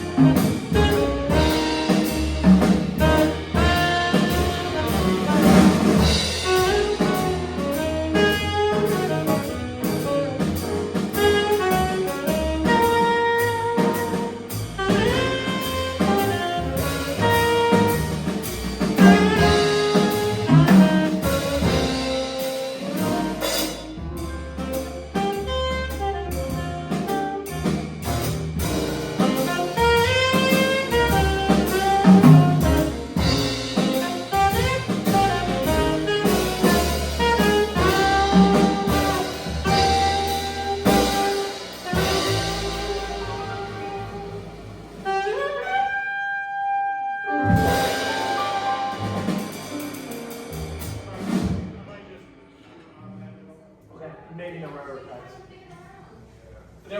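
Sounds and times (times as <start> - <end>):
saxophone melody: 0.0 - 27.7, 28.8 - 50.1
low bass line: 0.0 - 45.6, 47.4 - 51.5
drum kit: 0.0 - 52.0.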